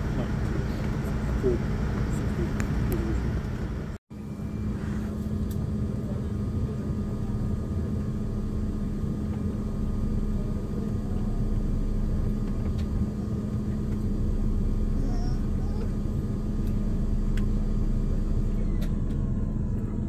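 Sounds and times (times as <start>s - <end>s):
aircraft cabin rumble: 0.0s - 20.0s
steady hum: 0.0s - 20.0s.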